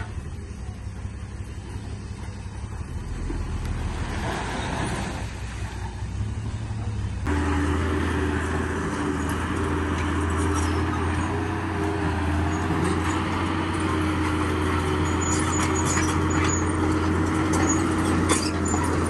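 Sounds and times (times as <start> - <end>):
heavy machinery diesel engines: 0.0 - 19.0.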